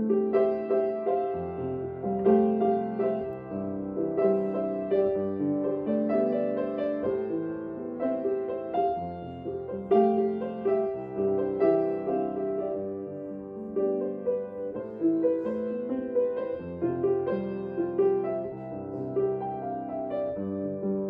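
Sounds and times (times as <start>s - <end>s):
slow piano piece: 0.0s - 21.0s.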